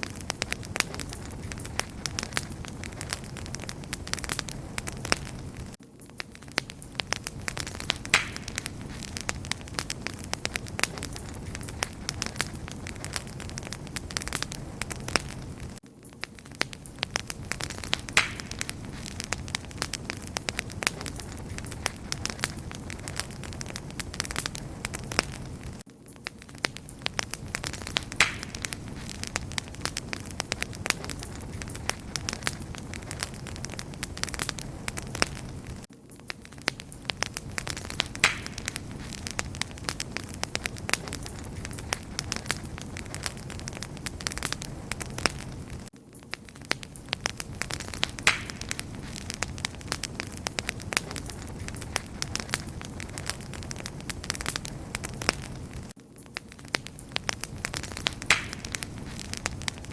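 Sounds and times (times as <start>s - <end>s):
campfire crackling: 0.0s - 59.9s
low rumble of flames: 0.0s - 59.9s.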